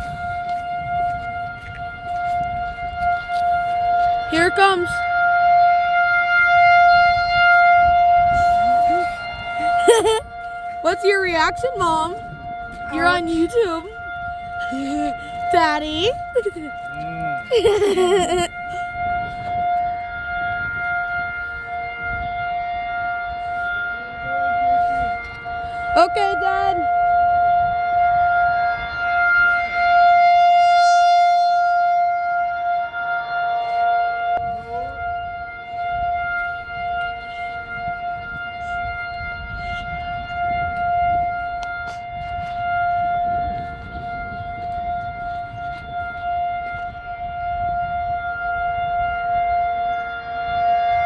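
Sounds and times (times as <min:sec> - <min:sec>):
tornado siren steady tone: 0:00.0 - 0:51.0.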